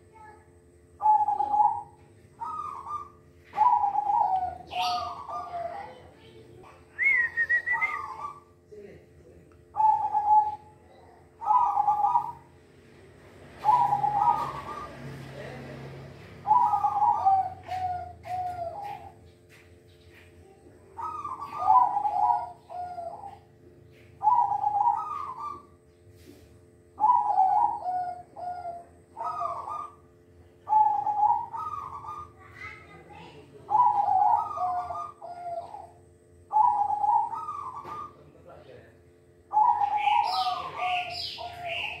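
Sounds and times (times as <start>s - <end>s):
dove cooing: 0.0s - 9.0s, 9.6s - 42.0s.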